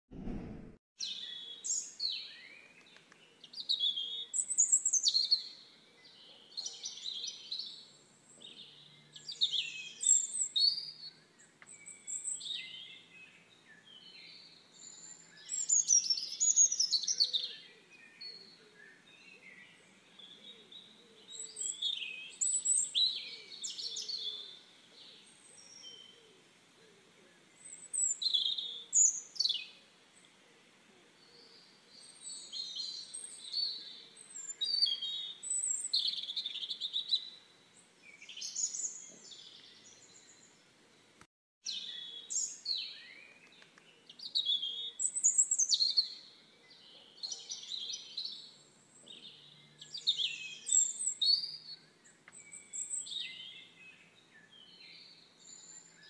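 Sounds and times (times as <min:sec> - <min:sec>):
songbirds chirping: 0:01.0 - 0:56.0.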